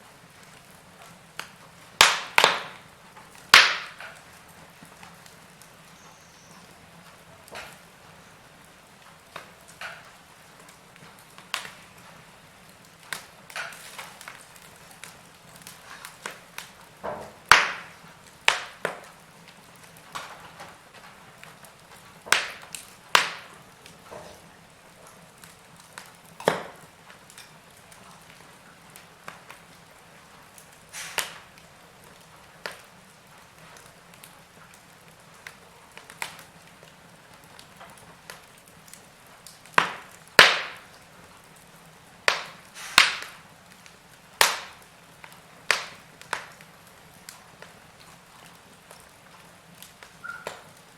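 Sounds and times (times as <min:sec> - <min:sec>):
low steady hiss: 0:00.0 - 0:50.9
wood fire crackling: 0:00.0 - 0:50.9.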